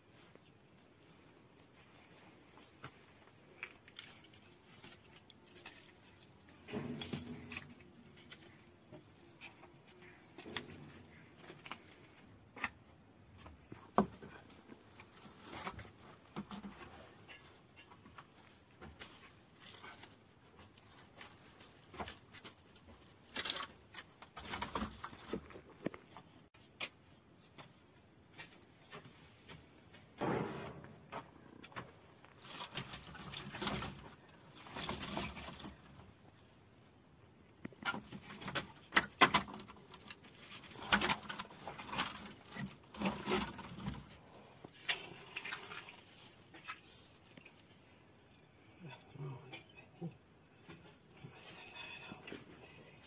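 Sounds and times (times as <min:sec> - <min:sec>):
brushwood rustling and scraping: 0:01.6 - 0:37.0, 0:37.6 - 0:47.7.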